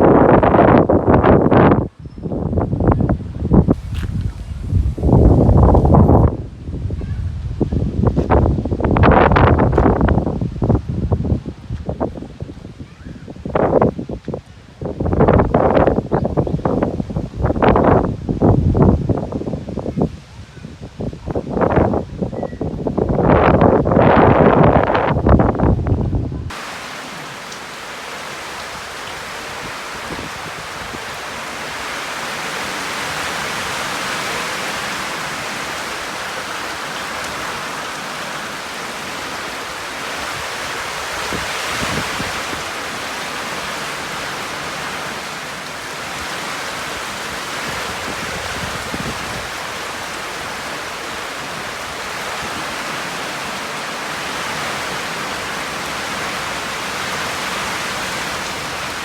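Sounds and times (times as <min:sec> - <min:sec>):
heavy rain: 0:00.0 - 0:59.0
strong storm wind: 0:00.0 - 0:59.0
wind gusts hitting microphone: 0:00.0 - 0:59.0.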